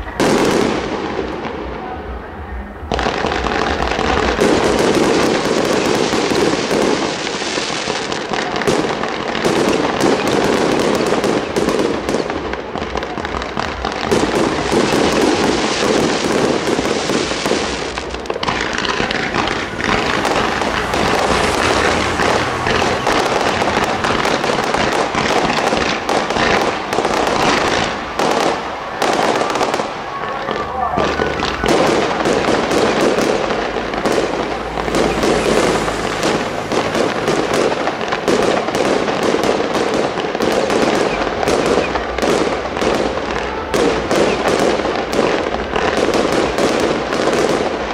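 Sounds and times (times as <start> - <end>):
fireworks popping and crackling: 0.0 - 47.9.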